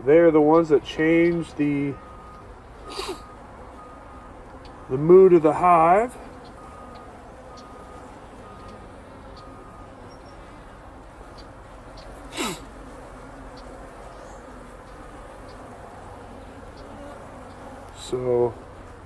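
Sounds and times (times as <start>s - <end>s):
honeybees buzzing: 0.0s - 19.0s
loud bee buzz passing close: 0.0s - 19.0s.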